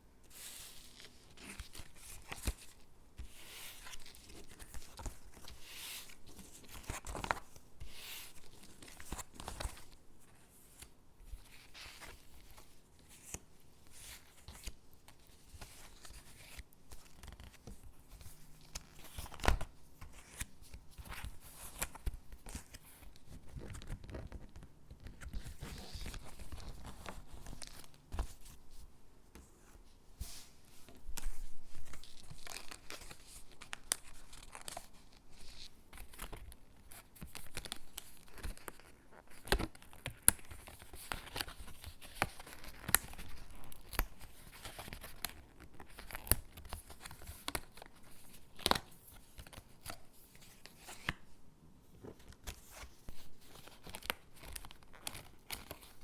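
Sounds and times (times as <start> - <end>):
paper crinkling and rustling: 0.4 - 51.3, 52.0 - 56.0.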